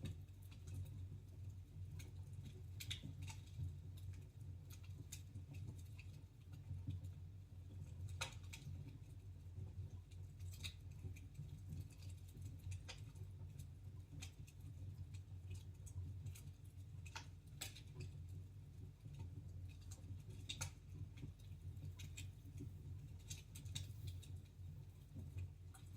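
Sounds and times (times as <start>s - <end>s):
low rumble of burning fire: 0.0s - 25.9s
wood fire crackling and popping: 0.0s - 25.9s.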